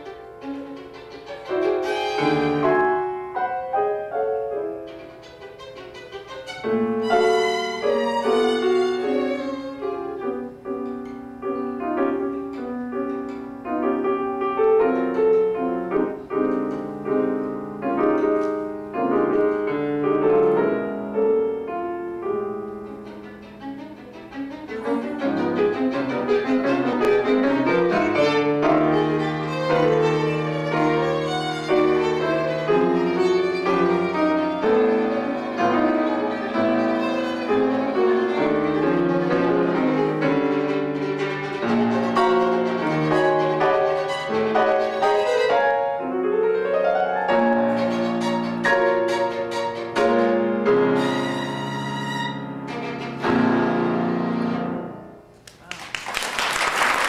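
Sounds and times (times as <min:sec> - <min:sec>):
violin and piano duo: 0:00.0 - 0:55.3.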